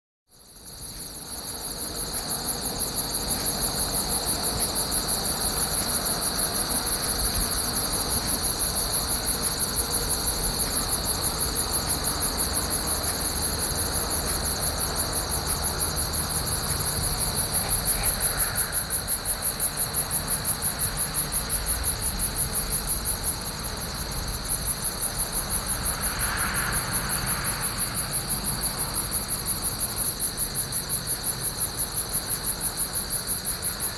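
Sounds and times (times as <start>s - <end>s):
crickets chirping: 0.3s - 33.9s.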